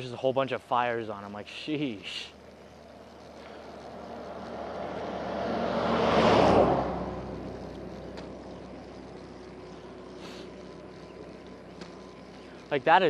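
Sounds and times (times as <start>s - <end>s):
road noise: 0.0s - 13.0s
wind: 0.0s - 13.0s
vehicle passing: 2.4s - 13.0s.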